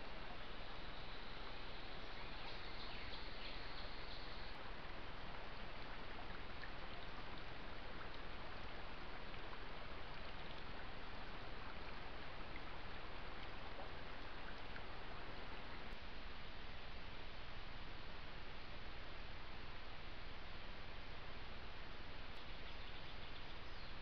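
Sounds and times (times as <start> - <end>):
creek flowing: 0.0 - 24.0
microphone hiss: 0.0 - 24.0.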